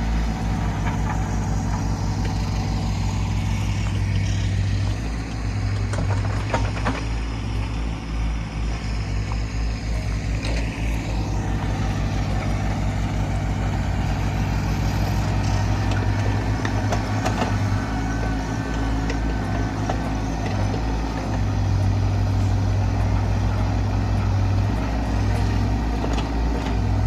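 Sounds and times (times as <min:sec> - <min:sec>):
engine rumbling: 0:00.0 - 0:27.0
clanks and knocks: 0:00.2 - 0:07.4, 0:10.3 - 0:27.0.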